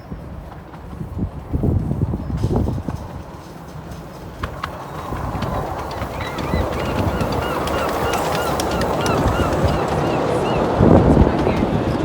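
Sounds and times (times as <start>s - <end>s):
miniature train rumbling: 0.0s - 12.0s
rail joint clicks: 0.0s - 12.0s.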